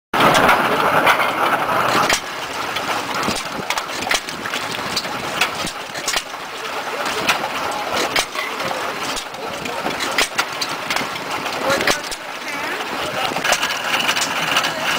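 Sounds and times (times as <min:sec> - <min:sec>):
stationary gas engine running: 0:00.2 - 0:14.9.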